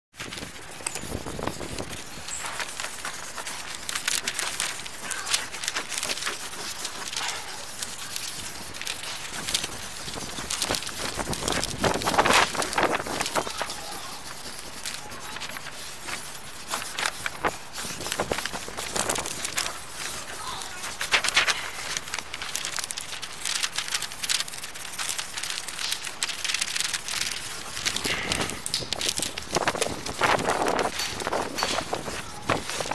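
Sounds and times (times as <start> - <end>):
crackling and rustling: 0.1 - 32.9.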